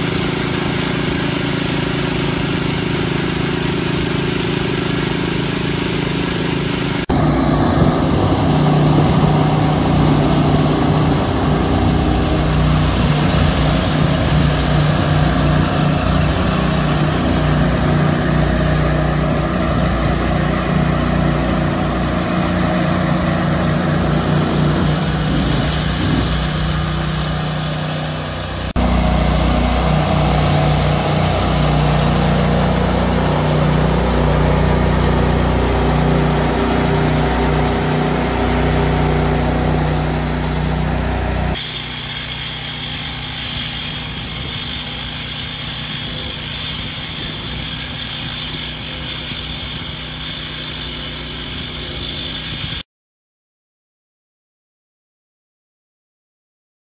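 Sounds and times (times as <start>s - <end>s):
power trowel engines running: 0.0s - 52.8s.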